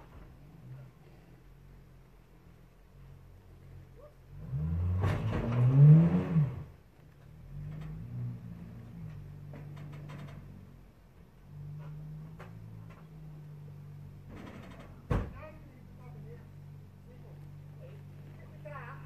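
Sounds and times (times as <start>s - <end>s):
car engine revving under load: 0.0s - 19.0s.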